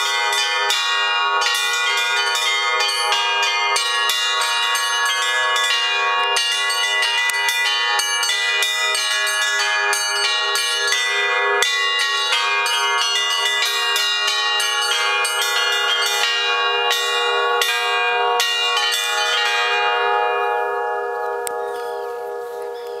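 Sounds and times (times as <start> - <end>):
church bells pealing: 0.0 - 23.0.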